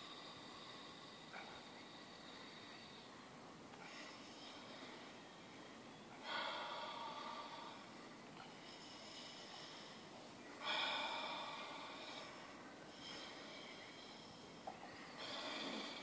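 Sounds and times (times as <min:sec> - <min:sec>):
faint inhales: 0:00.0 - 0:16.0.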